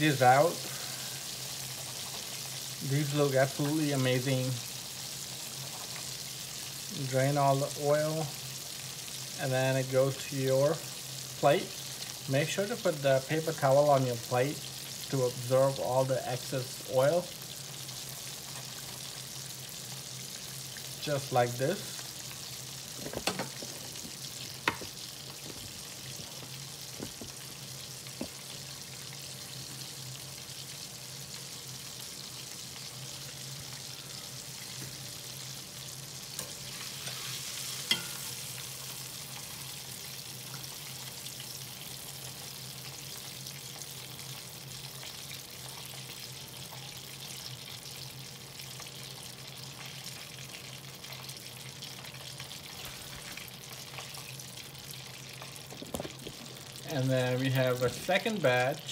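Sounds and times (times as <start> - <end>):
oil sizzling deep-frying: 0.0 - 58.9.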